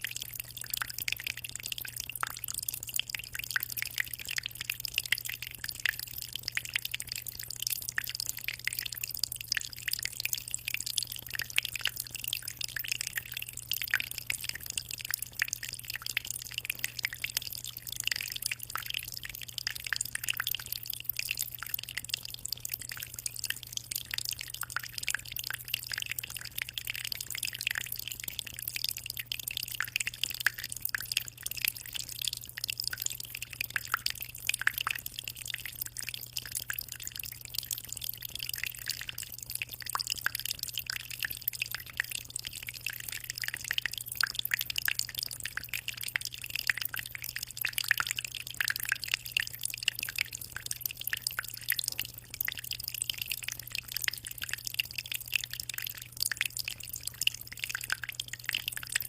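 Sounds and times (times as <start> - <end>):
aquarium water splashing: 0.0 - 59.0.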